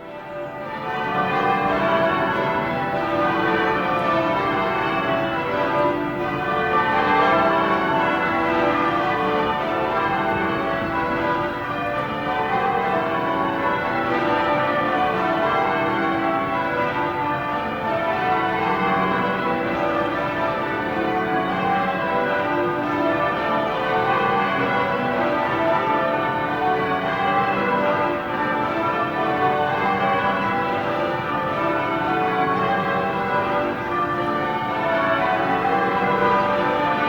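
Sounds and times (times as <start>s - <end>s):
church bells pealing: 0.0s - 37.0s.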